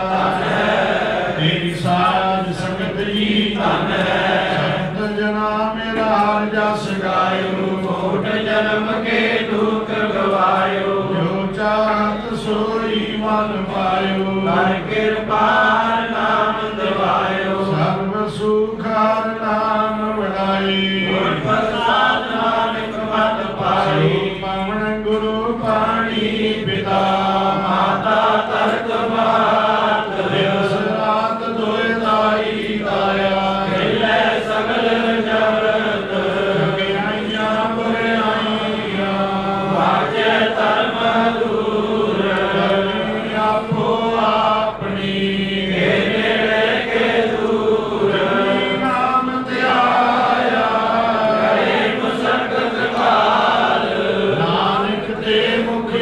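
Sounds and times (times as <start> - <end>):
man chanting into a microphone: 0.0 - 56.0.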